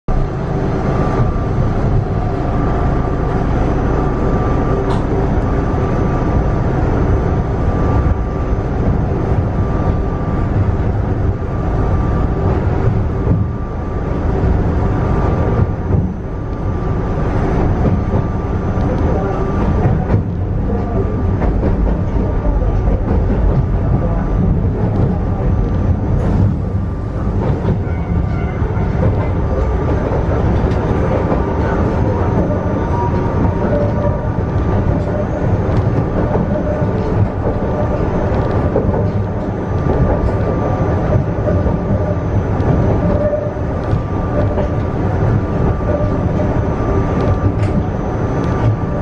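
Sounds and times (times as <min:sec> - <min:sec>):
train wheels rumbling on rails: 0:00.1 - 0:49.0.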